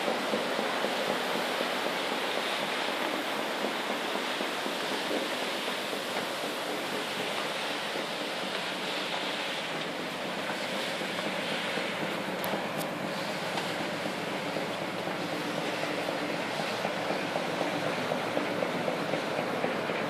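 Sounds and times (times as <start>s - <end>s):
sea water rushing along hull: 0.0s - 20.0s.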